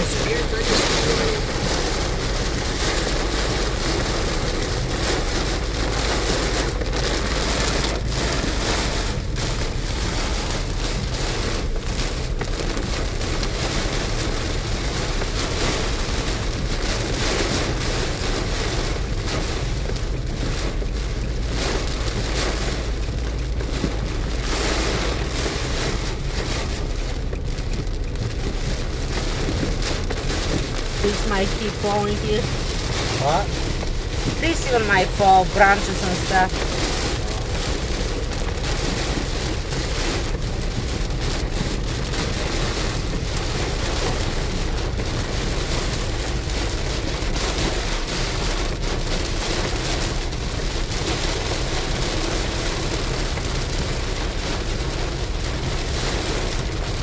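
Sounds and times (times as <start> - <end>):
car rumbling on wet road: 0.0 - 57.0
heavy rain on car: 0.0 - 57.0.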